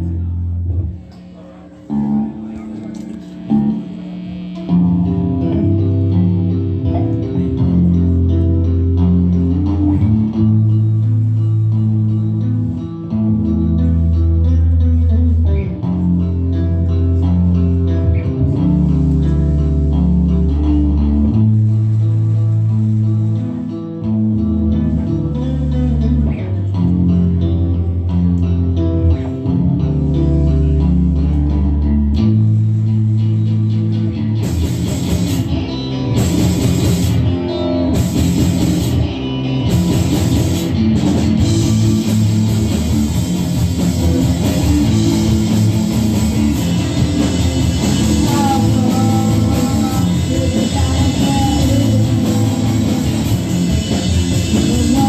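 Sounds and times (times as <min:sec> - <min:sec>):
bass and guitar riff: 0:00.0 - 0:55.0
rock band playing: 0:00.0 - 0:55.0.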